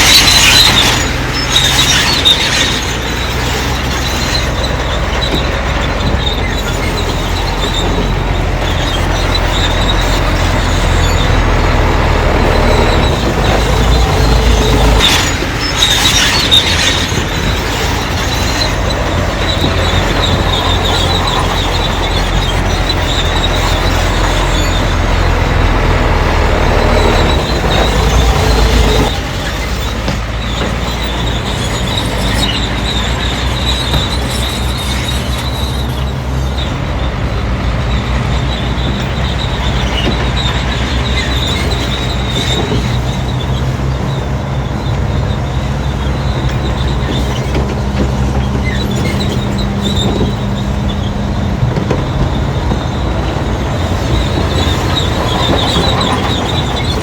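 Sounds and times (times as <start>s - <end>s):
bulldozer diesel engine running: 0.0s - 57.0s
steel tracks squealing and clanking: 0.0s - 57.0s.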